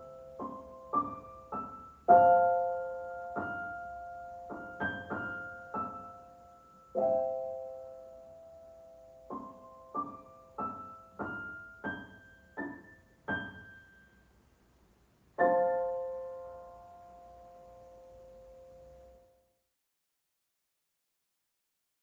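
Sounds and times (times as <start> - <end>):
solo piano: 0.0 - 14.3, 15.3 - 19.6.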